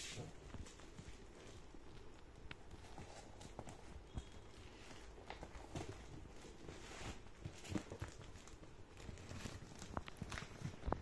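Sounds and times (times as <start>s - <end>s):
hands handling cardboard parcel: 0.0s - 11.0s.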